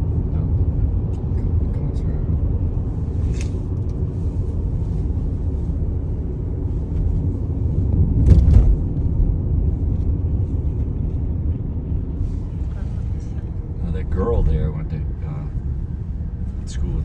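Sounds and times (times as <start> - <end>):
car road noise inside cabin: 0.0 - 17.0.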